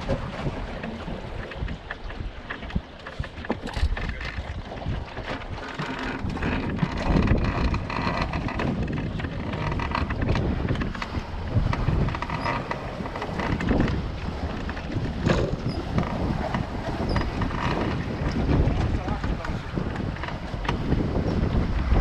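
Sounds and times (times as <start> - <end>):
water rushing along boat hull: 0.0 - 22.0
wind buffeting microphone: 0.0 - 22.0.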